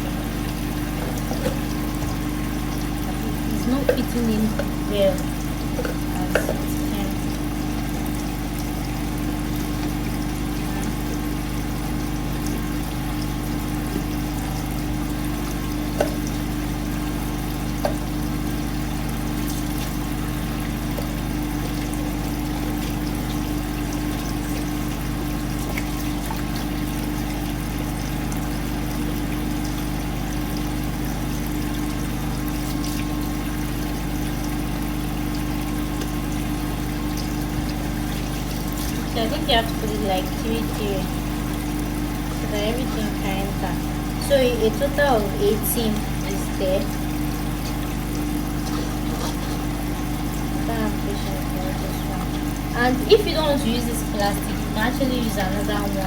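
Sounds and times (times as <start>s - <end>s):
motor humming: 0.0s - 56.0s.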